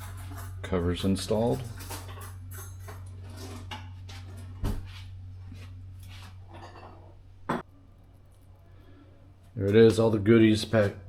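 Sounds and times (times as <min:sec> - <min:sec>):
refrigerator hum: 0:00.0 - 0:11.0.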